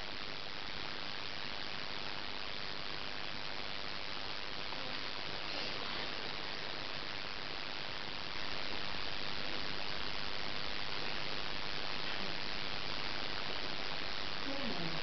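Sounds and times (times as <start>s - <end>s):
recording noise hiss: 0.0s - 15.0s.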